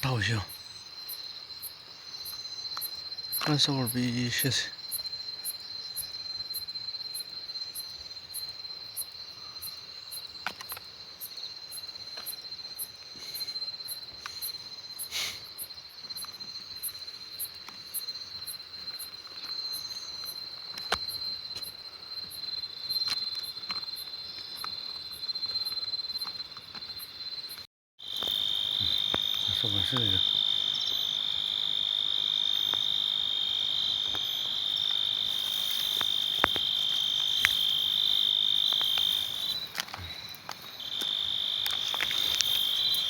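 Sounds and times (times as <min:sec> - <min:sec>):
insects buzzing: 0:00.0 - 0:43.0
pulsing high insect chirp: 0:00.0 - 0:43.0.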